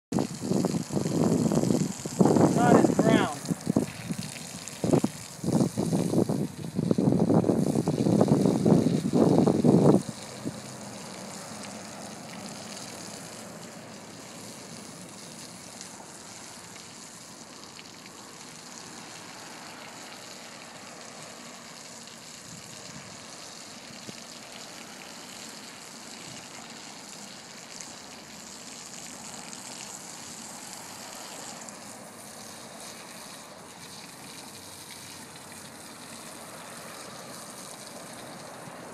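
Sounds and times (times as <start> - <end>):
garden hose spraying water: 0.1 - 38.9.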